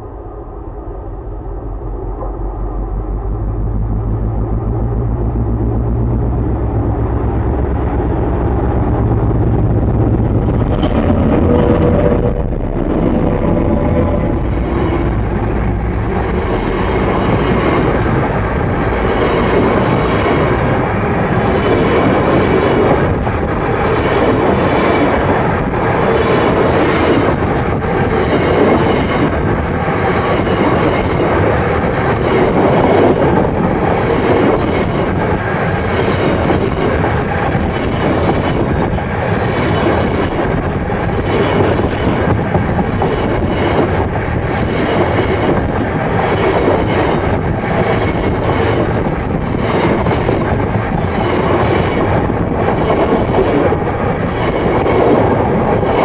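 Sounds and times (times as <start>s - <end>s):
freight train rolling overhead: 0.0s - 56.0s.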